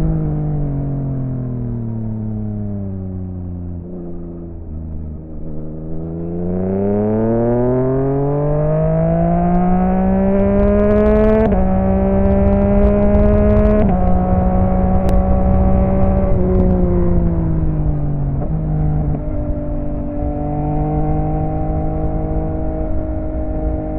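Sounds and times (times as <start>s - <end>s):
motorcycle engine accelerating: 0.0s - 23.9s.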